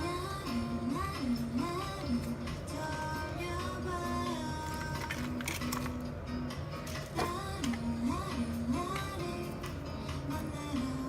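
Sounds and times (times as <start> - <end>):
woman singing: 0.0 - 5.6, 7.1 - 11.0.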